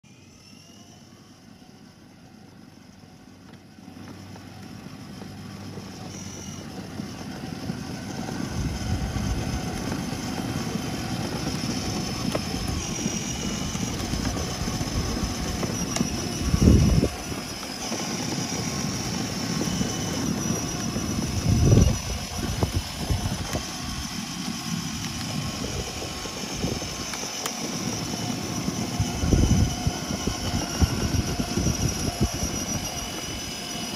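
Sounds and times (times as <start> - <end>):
electric toy car motor whirring: 0.1 - 33.9
plastic wheels rolling on asphalt: 0.4 - 33.9.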